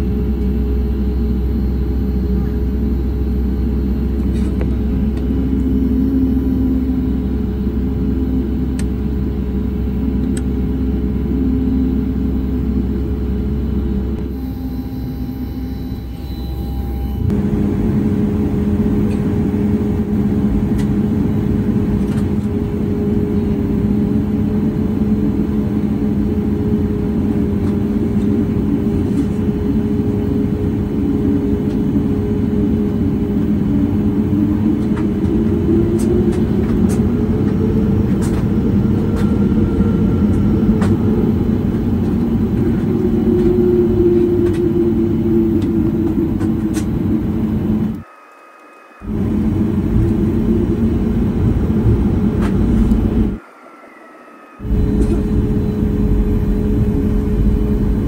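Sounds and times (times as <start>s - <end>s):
aircraft cabin engine hum: 0.0s - 58.0s.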